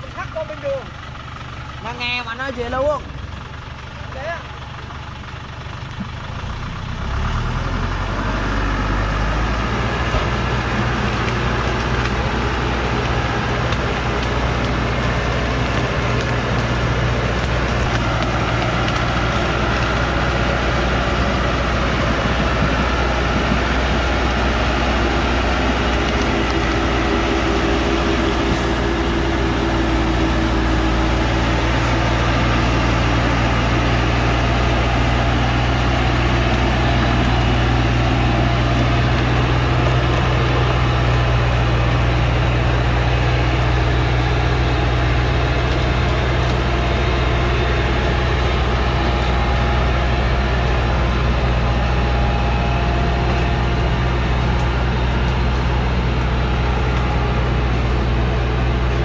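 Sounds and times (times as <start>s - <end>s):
heavy diesel truck engine: 0.0s - 59.0s
whine: 8.0s - 59.0s.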